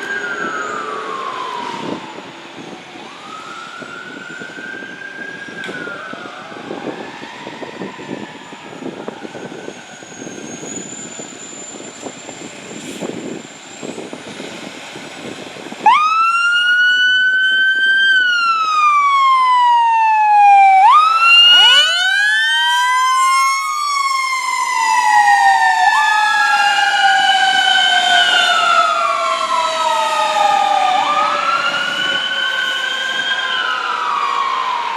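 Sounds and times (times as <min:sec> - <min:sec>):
road noise: 0:00.0 - 0:34.9
sirens wailing: 0:00.0 - 0:34.9.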